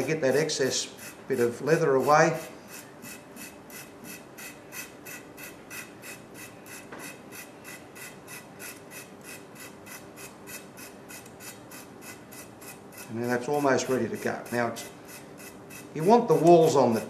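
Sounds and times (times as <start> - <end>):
nail file rasping on leather: 0.3 - 16.5.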